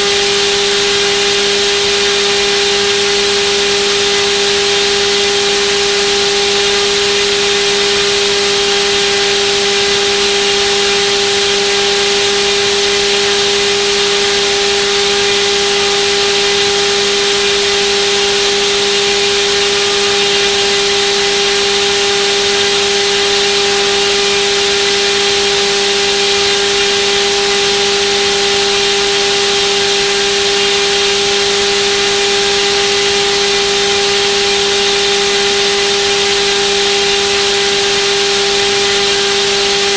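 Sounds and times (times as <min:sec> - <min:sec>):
electric motor spinning propeller: 0:00.0 - 0:39.9.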